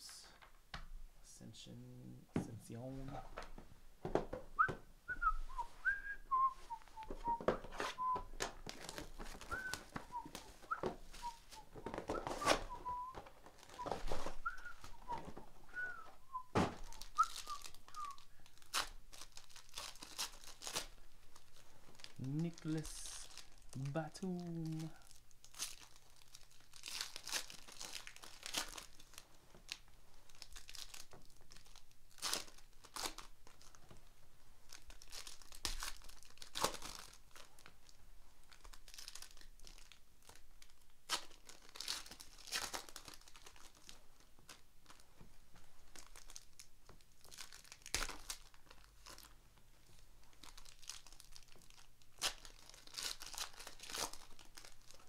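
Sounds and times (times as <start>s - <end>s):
foil packs crinkling and tearing: 6.6s - 34.0s, 34.6s - 45.0s, 45.8s - 55.0s.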